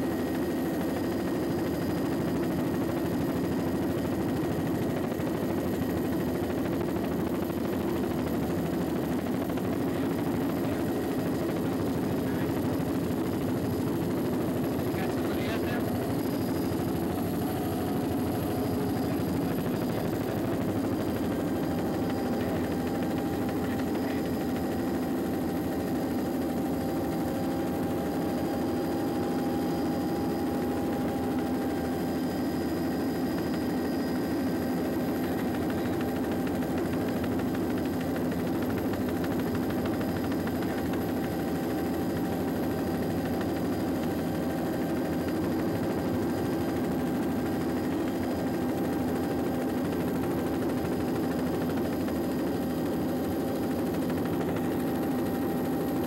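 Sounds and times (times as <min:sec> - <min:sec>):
aircraft engine drone in cabin: 0:00.0 - 0:56.0.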